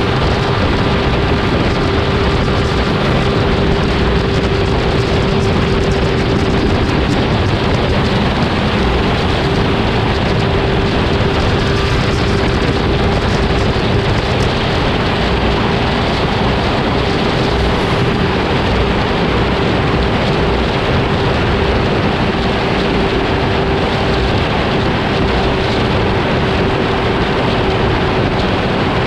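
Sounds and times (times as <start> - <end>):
rushing road noise: 0.0 - 29.0
vehicle engine: 0.0 - 29.0.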